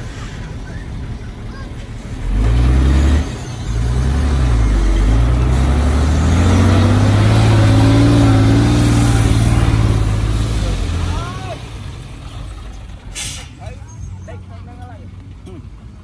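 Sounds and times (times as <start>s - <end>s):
diesel engine revving: 0.0s - 14.9s.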